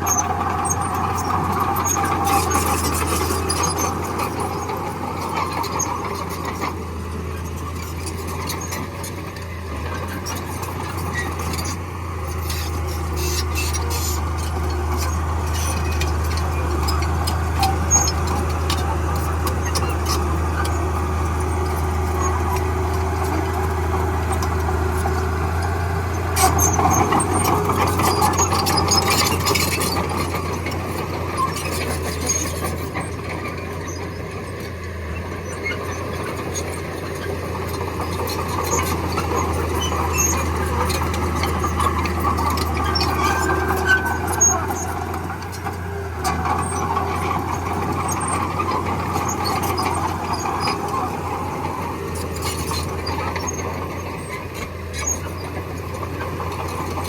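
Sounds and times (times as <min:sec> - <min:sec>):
diesel engine under load: 0:00.0 - 0:57.0
metallic clanks and squeaks: 0:00.0 - 0:57.0.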